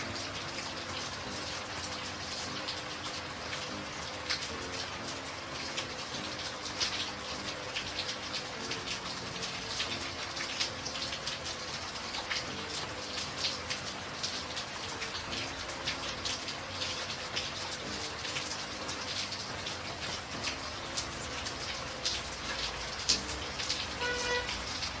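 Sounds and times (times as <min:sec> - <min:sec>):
raindrops ticking close by: 0:00.0 - 0:25.0
steady rainfall: 0:00.0 - 0:25.0.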